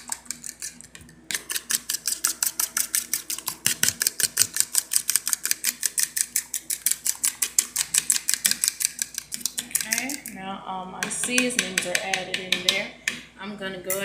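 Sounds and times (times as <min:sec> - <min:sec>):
fork whisking in plastic bowl: 0:00.0 - 0:10.4, 0:11.0 - 0:12.9.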